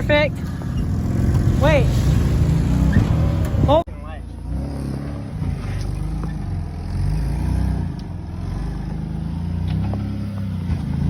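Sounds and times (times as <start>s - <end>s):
off-road vehicle engine crawling: 0.0s - 11.0s.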